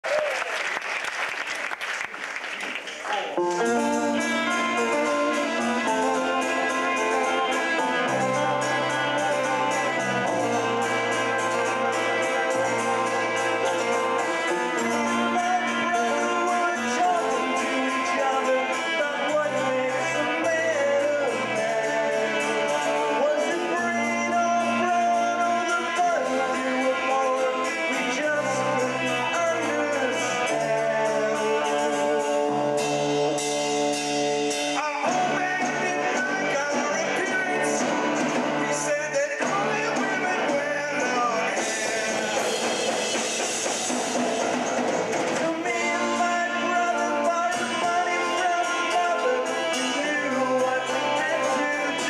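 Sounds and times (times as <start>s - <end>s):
rock band playing live: 3.3s - 52.0s
person singing: 3.4s - 52.0s.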